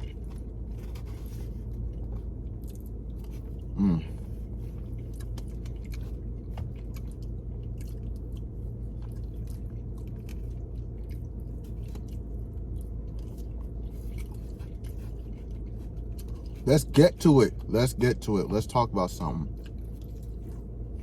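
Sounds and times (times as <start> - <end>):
man chewing food: 0.0 - 17.7, 19.4 - 21.0
steady low hum: 0.0 - 21.0.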